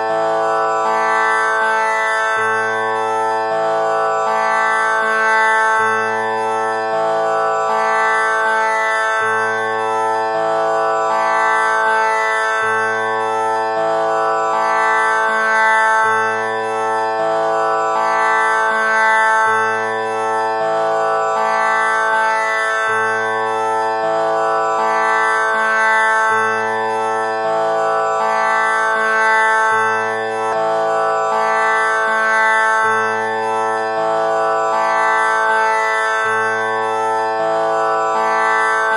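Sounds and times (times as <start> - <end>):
tanpura drone: 0.0 - 38.9.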